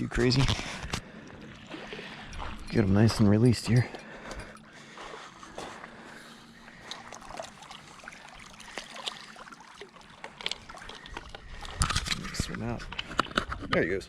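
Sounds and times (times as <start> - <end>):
water sloshing and splashing: 0.0 - 13.6.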